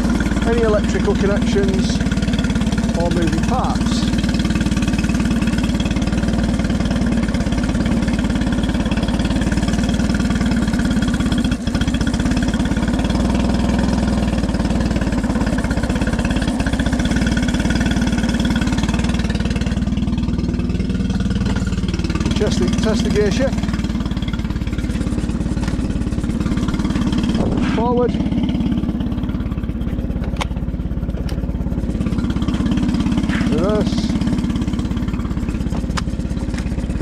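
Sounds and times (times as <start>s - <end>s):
outboard engine idling: 0.0s - 37.0s.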